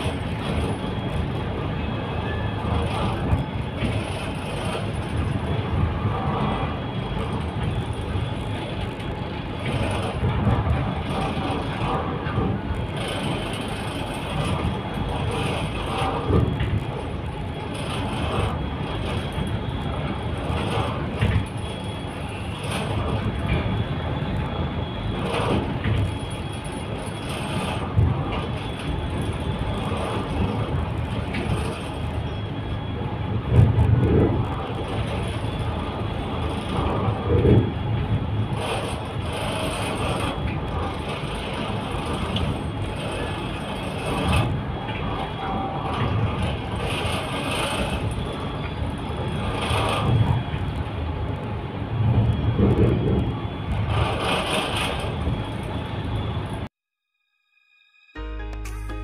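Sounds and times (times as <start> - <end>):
diesel boat engine drone: 0.0 - 56.7.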